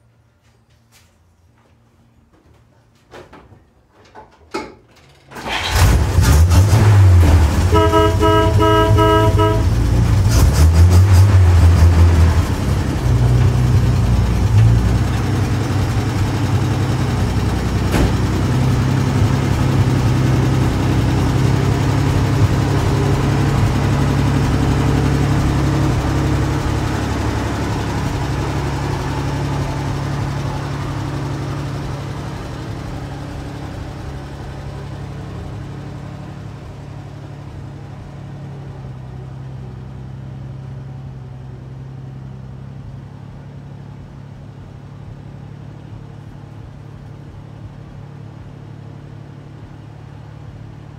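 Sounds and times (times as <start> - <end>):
truck engine running: 5.4 - 50.9.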